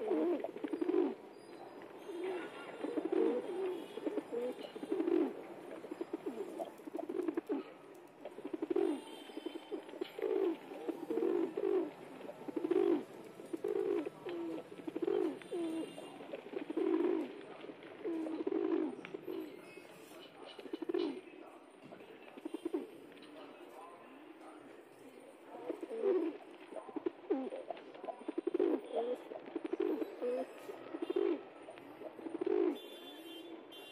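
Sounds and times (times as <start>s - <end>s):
pigeons cooing: 0.0s - 19.6s, 20.2s - 21.3s, 22.4s - 23.0s, 25.5s - 32.8s.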